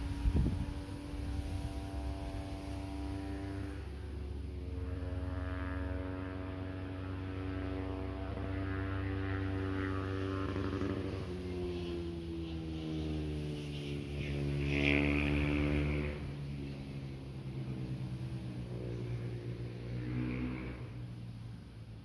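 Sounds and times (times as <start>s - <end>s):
low hum: 0.0s - 22.0s
motor drone: 0.0s - 22.0s.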